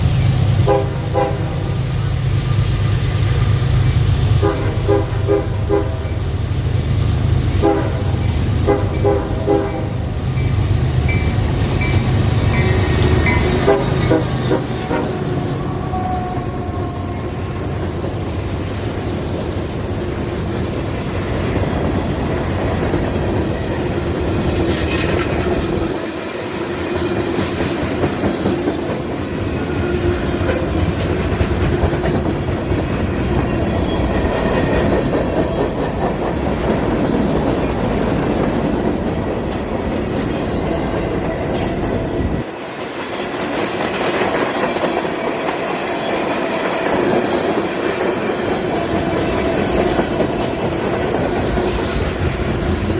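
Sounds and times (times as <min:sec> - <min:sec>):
train wheels clickety-clack: 0:00.0 - 0:52.9.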